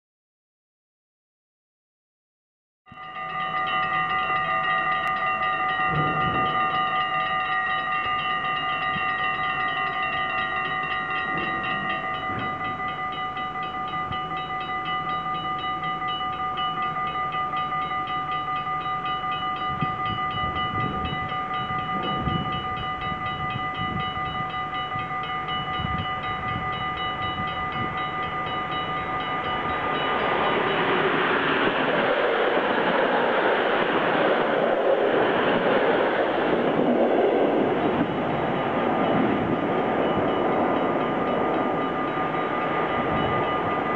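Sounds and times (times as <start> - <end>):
approaching train: 2.9 - 43.9
level crossing warning bells: 2.9 - 43.9.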